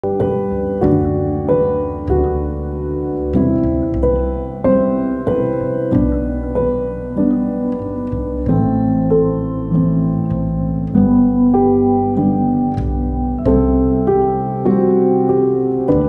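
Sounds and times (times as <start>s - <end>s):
piano-like keyboard chords: 0.0s - 16.0s.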